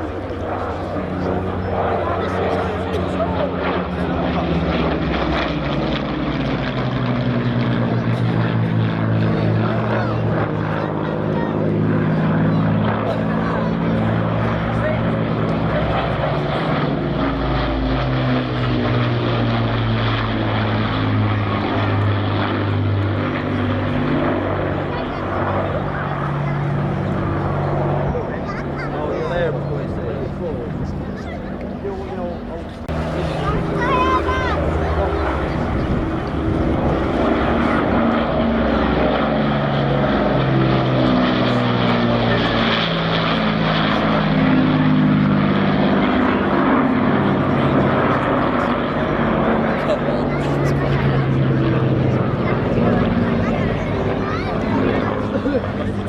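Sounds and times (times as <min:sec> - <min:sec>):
propeller aircraft engines droning: 0:00.0 - 0:56.0.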